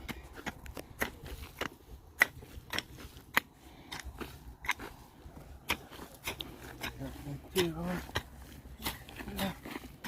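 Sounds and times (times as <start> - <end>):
hand tool knocking soil: 0.0 - 10.0
soil crunching scrapes: 0.0 - 10.0.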